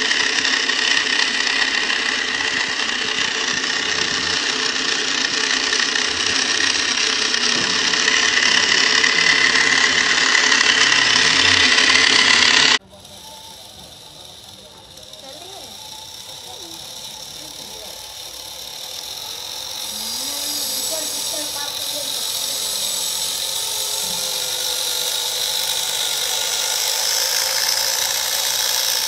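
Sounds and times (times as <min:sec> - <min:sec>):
toy truck engine drone: 0:00.0 - 0:29.0.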